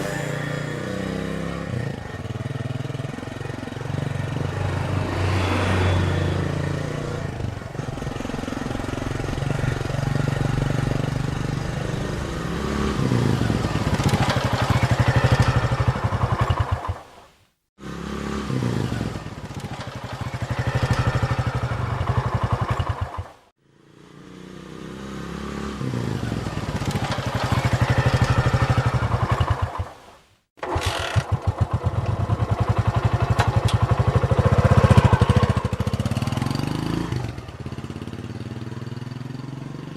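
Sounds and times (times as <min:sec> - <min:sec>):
motorcycle engine revving: 0:00.0 - 0:17.1, 0:17.8 - 0:29.9, 0:30.6 - 0:39.9.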